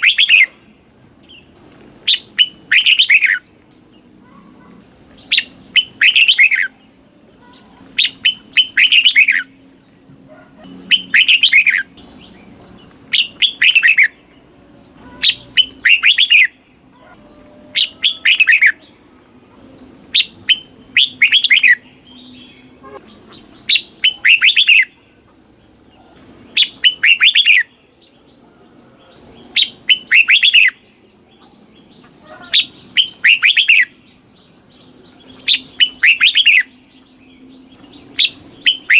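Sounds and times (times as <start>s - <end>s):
bird singing whistled notes: 0.0s - 0.6s, 1.2s - 3.6s, 4.2s - 10.0s, 10.7s - 19.0s, 19.6s - 25.2s, 26.2s - 28.3s, 29.0s - 31.2s, 32.5s - 38.9s.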